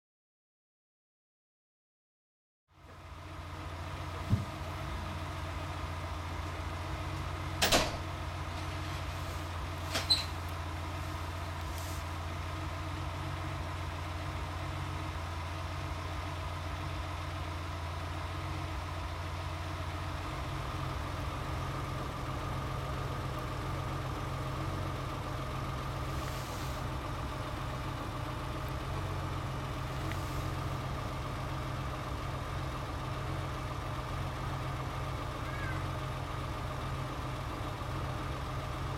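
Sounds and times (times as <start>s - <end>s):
car engine idling: 2.7s - 38.9s.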